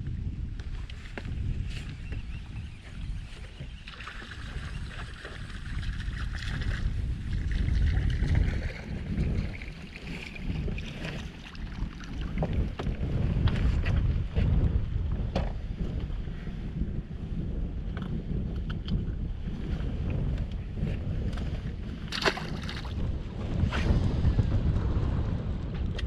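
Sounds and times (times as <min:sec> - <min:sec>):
gusty wind buffeting microphone: 0:00.0 - 0:26.0.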